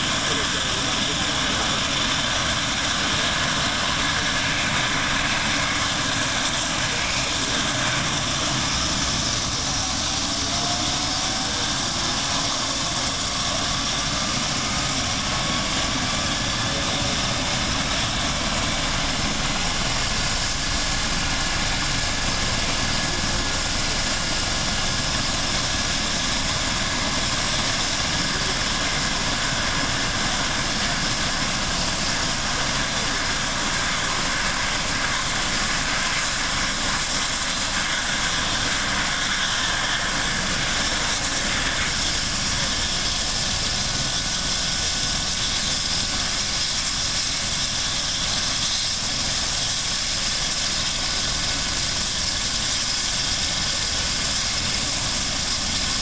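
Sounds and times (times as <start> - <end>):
helicopter running on the ground: 0.0 - 56.0.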